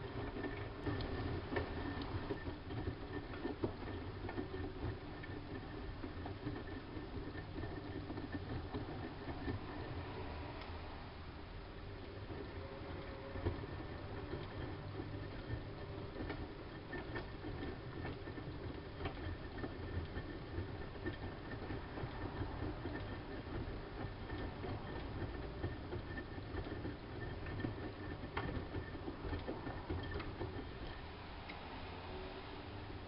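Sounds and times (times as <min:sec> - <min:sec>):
light clicks and ticks: 0:00.0 - 0:10.9, 0:12.0 - 0:33.0.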